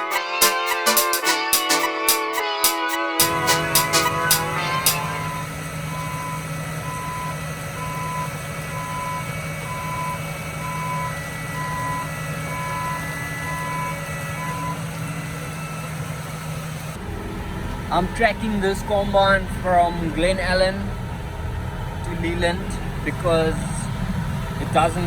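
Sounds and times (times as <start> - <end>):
engine hum: 3.2 - 25.0
reversing alarm beeping: 3.2 - 25.0.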